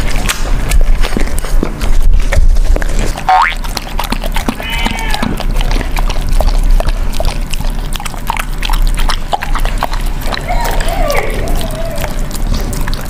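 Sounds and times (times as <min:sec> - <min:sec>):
animals lapping wetly: 0:00.0 - 0:13.0.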